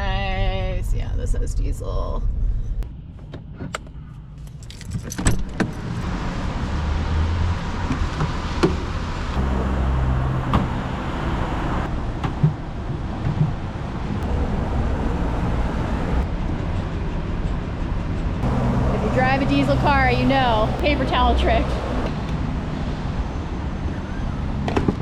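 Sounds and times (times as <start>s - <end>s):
diesel car engine rumbling: 0.0s - 25.0s.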